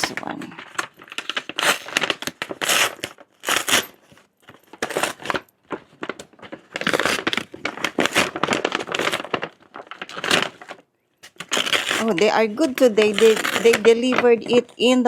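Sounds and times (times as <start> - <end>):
packaging tearing and rustling: 0.0 - 15.0.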